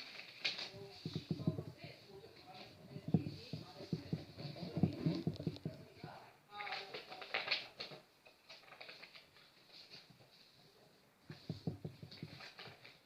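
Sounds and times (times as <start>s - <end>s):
paper rustling and crackling: 0.0s - 10.6s, 11.3s - 13.0s.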